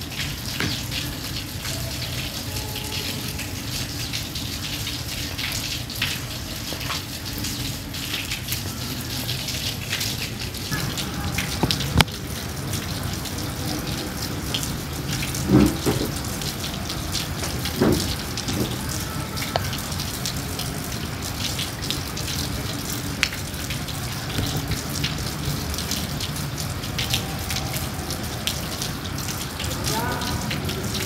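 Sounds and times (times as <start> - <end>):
rain falling on a puddle: 0.0 - 31.0.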